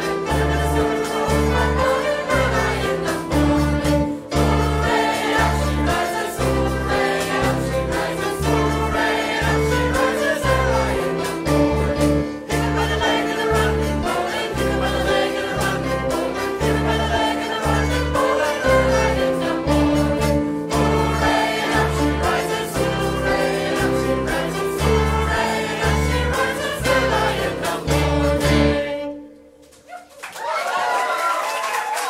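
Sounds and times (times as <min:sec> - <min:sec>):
live band playing: 0:00.0 - 0:29.7.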